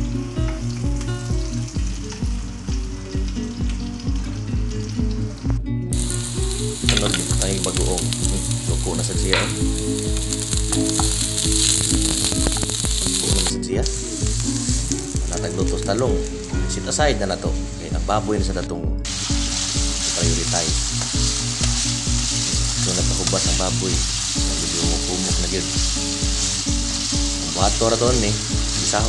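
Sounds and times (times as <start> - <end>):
background music with steady beat: 0.0 - 29.0
slices sizzling in hot oil: 0.2 - 17.0, 19.0 - 29.0.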